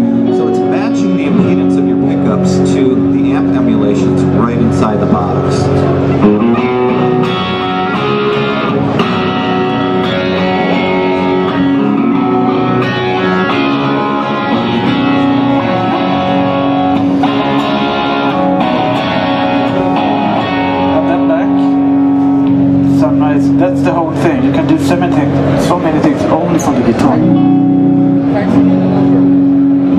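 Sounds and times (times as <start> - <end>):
electric guitar chords and notes: 0.0 - 29.9.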